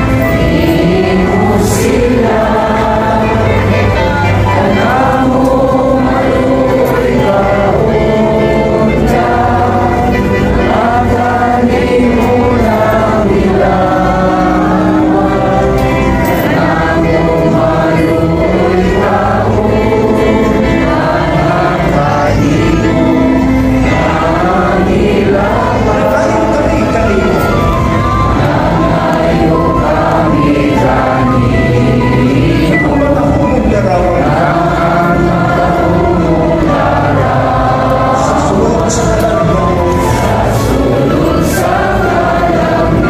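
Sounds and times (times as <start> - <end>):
choir singing a hymn: 0.0 - 43.0
crowd singing along: 0.0 - 43.0.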